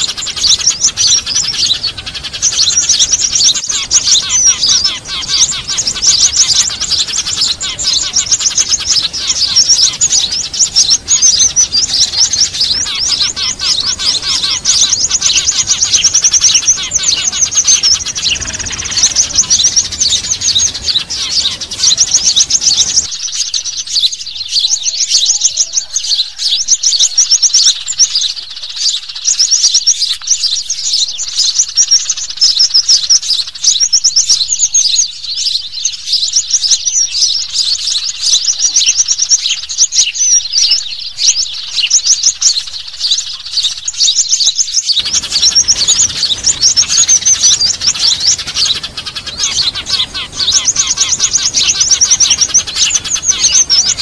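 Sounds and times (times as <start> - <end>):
songbirds twittering: 0.0 - 54.0.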